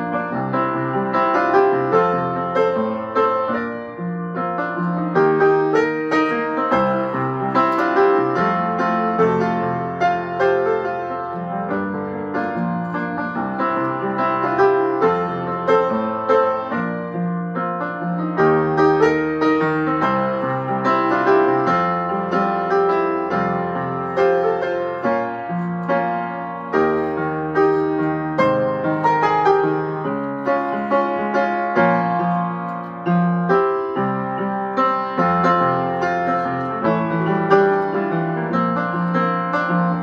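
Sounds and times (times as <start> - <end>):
solo piano playing: 0.0 - 40.0.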